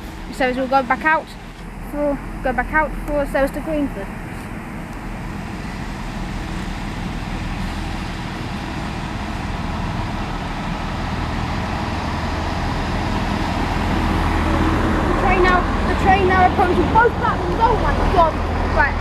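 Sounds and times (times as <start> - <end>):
train engine hum and rumble: 0.0 - 19.0.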